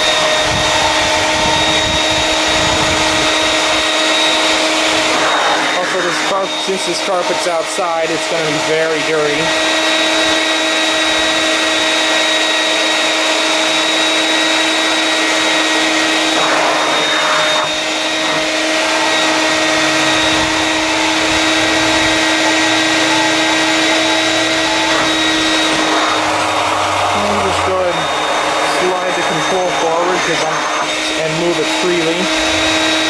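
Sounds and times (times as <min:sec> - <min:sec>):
vacuum motor whining: 0:00.0 - 0:33.0
vacuum sucking up water: 0:00.0 - 0:33.0.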